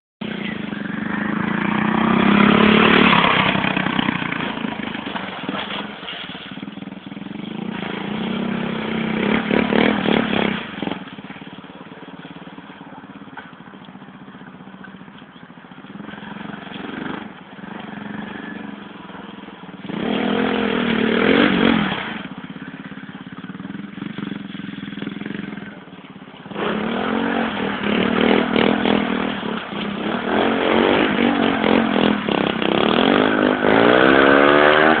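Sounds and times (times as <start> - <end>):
dirt bike engine revving: 0.2 - 12.8, 14.2 - 35.0.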